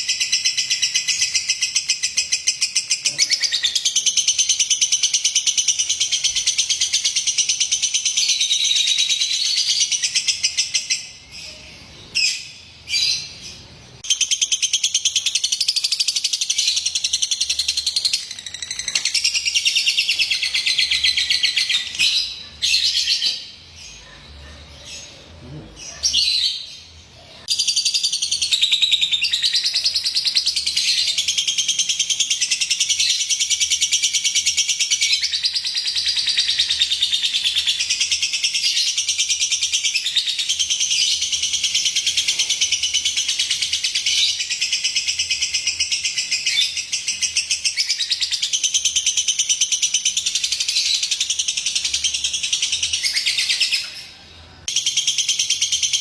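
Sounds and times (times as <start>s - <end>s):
lovebird chirping: 0.0s - 56.0s.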